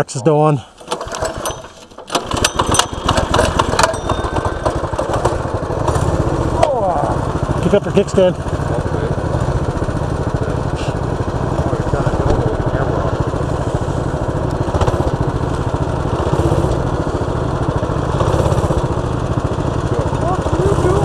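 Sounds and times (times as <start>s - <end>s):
small engine idling: 0.7s - 21.0s.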